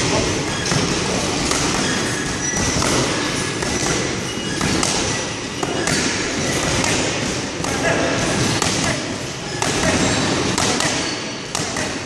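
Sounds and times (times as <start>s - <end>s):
loud rumbling background noise: 0.0s - 12.0s
punches thudding on mitts: 0.5s - 12.0s.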